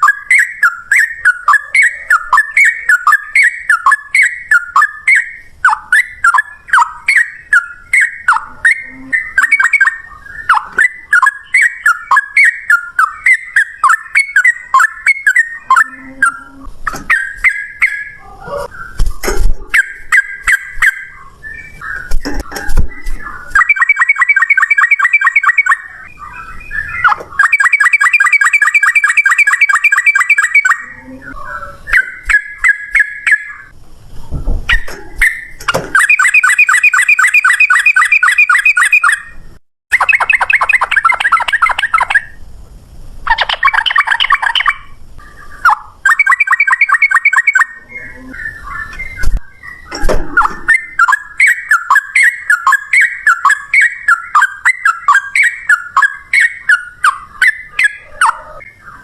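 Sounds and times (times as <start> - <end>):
bird chattering notes: 0.0 - 33.7, 34.7 - 42.4, 43.3 - 58.8
bird singing rattling trills: 0.0 - 42.4, 43.3 - 59.0.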